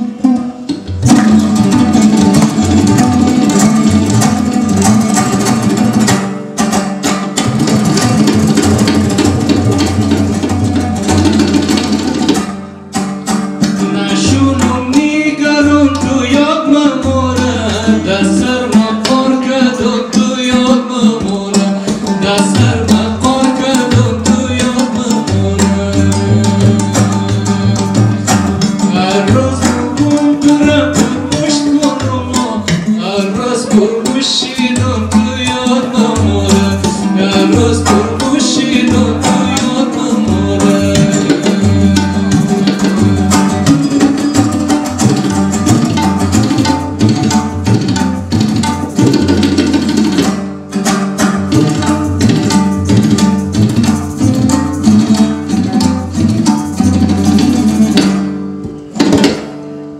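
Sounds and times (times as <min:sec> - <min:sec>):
steady drumming: 0:00.0 - 0:59.7
lute played rhythmically: 0:00.0 - 0:59.9.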